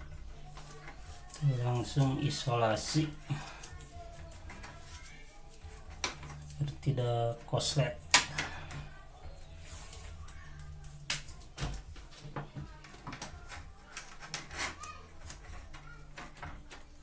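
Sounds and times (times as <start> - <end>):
hands handling wiring and tape: 0.0 - 17.0.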